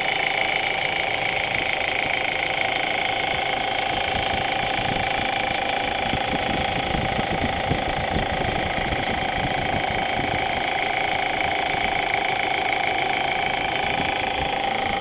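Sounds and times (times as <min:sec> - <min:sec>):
car engine idling: 0:00.0 - 0:15.0
valve train ticking: 0:00.0 - 0:15.0.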